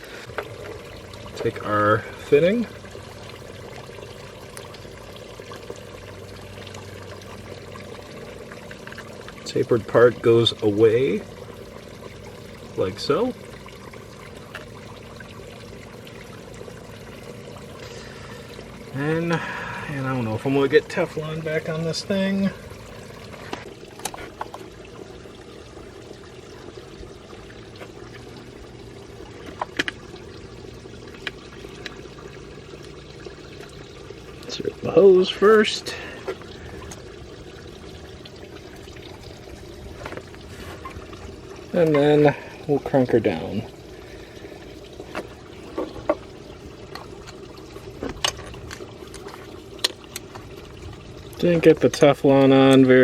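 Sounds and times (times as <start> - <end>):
background hiss and hum: 0.0 - 53.0.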